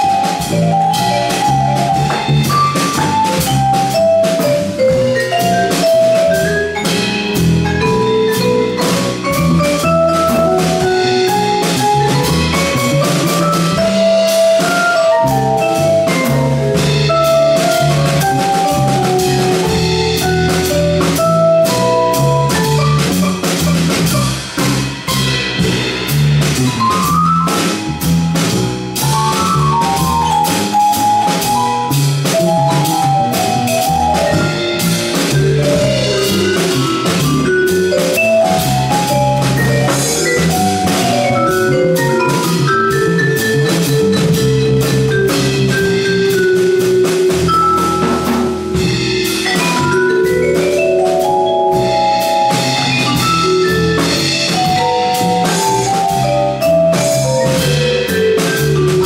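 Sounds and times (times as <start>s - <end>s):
double bass: 0.0s - 59.0s
vibraphone: 0.0s - 59.0s.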